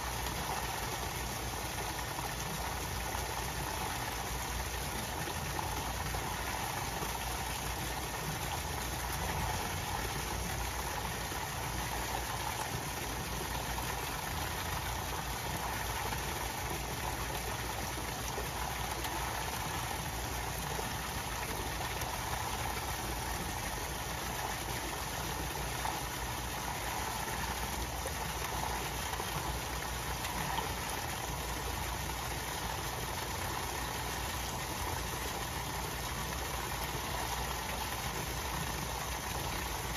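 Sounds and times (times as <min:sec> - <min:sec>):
low constant hum: 0:00.0 - 0:39.9
water pouring into a pond: 0:00.0 - 0:39.9.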